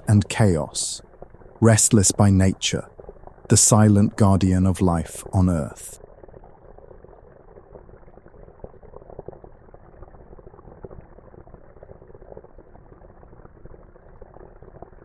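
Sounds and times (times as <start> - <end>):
water bubbling and gurgling: 0.0 - 15.0.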